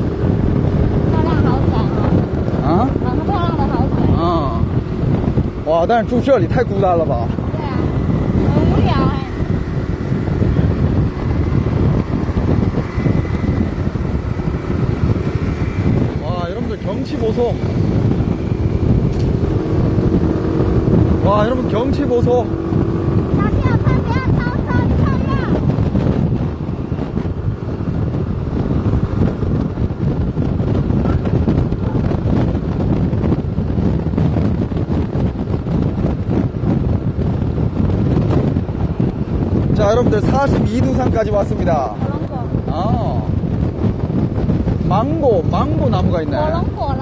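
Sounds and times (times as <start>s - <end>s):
scooter engine: 0.0s - 40.8s
road noise: 0.0s - 47.0s
wind buffeting microphone: 0.0s - 47.0s.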